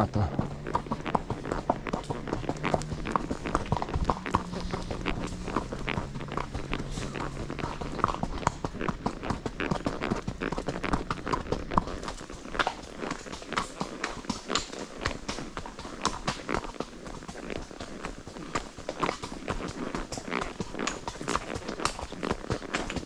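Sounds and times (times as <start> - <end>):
horse hooves clip-clopping: 0.0 - 23.0.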